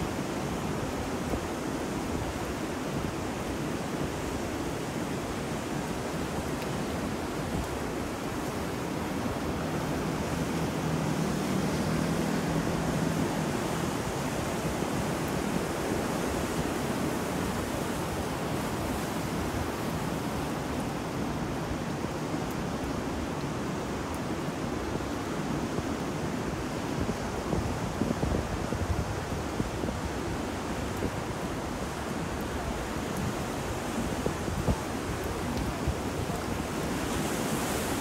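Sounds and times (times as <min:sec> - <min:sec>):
ocean surf: 0:00.0 - 0:38.0
wind: 0:00.0 - 0:38.0.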